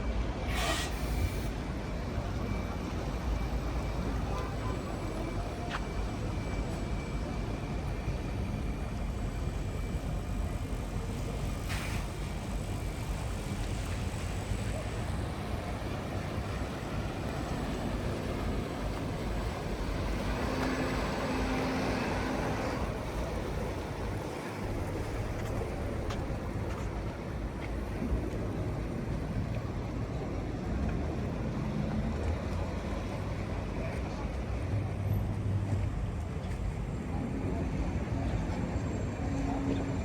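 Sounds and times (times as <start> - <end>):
low rumble of traffic: 1.4 - 40.0.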